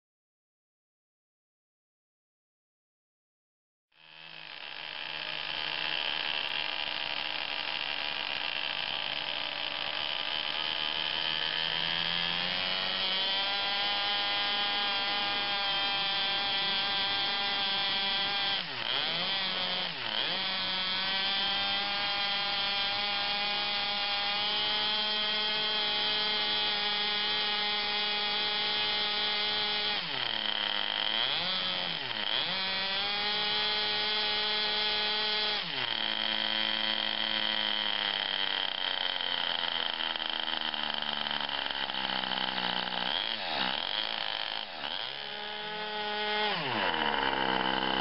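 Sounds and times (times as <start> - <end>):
model airplane engine buzzing: 4.0 - 48.0.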